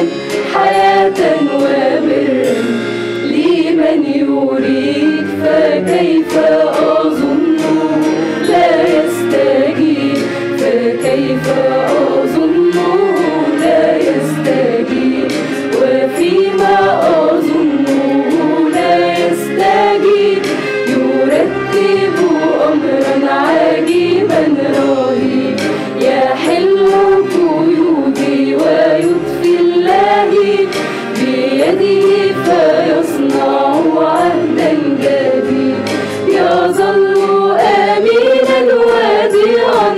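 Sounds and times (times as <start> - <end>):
mixed choir singing a hymn: 0.0 - 39.9.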